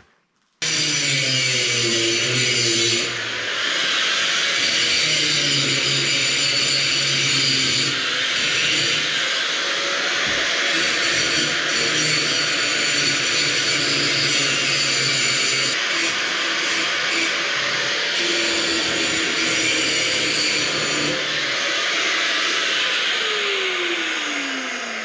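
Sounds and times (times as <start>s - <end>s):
angle grinder whining: 0.6s - 25.0s.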